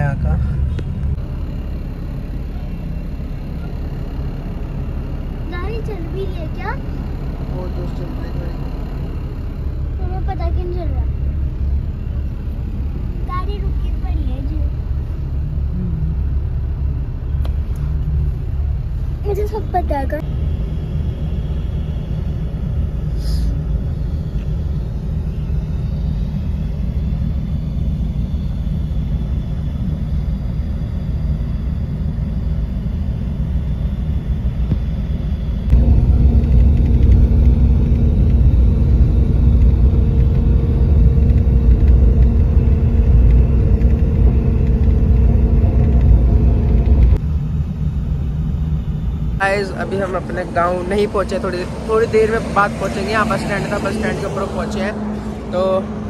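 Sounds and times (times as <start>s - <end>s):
bus engine and road rumble: 0.0s - 56.0s
steady low hum: 0.0s - 56.0s.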